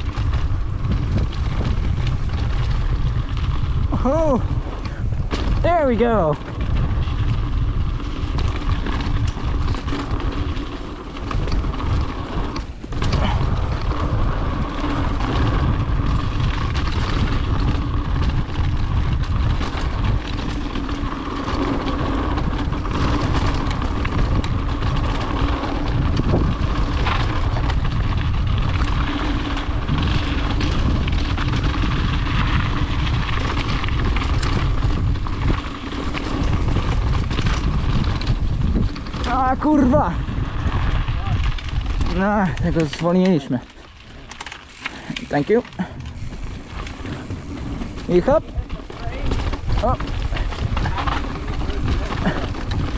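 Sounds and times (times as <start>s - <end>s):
bike tyre and rattle: 0.0s - 52.9s
wind noise on microphone: 0.0s - 52.9s.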